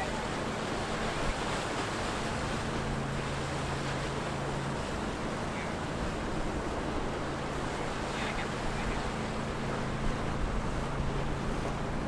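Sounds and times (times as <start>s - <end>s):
boat engines humming: 0.0s - 12.0s
choppy water: 0.0s - 12.0s.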